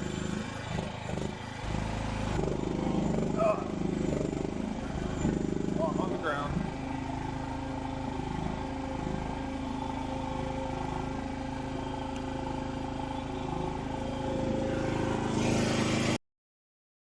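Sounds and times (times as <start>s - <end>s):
small engine running under load: 0.0s - 16.2s.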